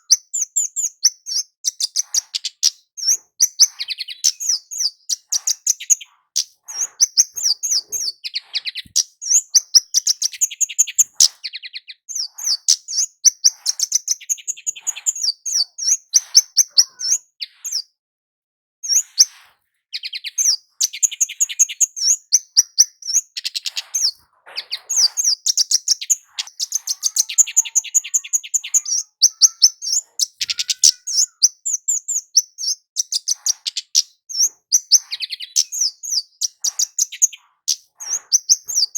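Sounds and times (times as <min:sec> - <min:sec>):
bird chirps and trills: 0:00.0 - 0:17.9, 0:18.8 - 0:38.9.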